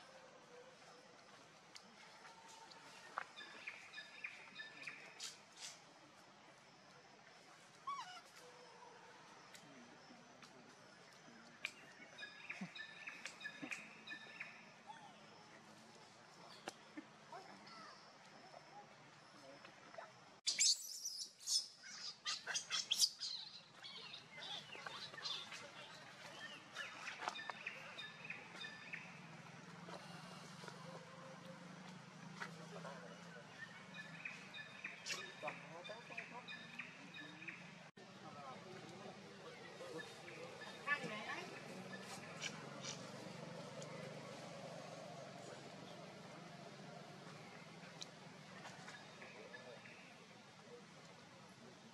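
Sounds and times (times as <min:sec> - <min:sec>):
birds chirping: 0:03.0 - 0:05.8, 0:09.6 - 0:18.0, 0:20.5 - 0:50.8.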